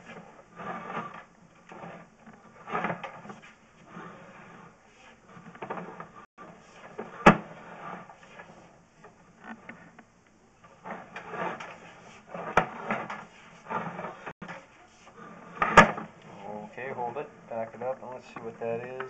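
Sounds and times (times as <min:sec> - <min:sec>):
cable scraping and rustling: 0:00.0 - 0:19.0.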